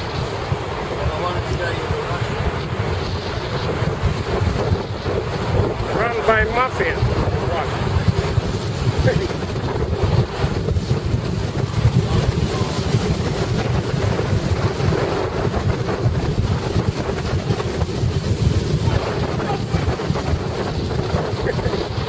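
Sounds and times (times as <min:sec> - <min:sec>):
car road and engine noise: 0:00.0 - 0:22.0
wind noise on microphone: 0:00.0 - 0:22.0.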